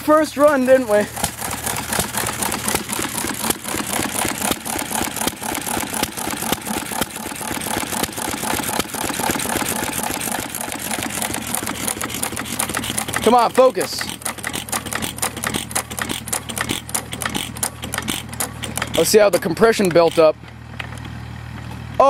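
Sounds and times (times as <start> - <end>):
small engine ticking: 0.0 - 21.0.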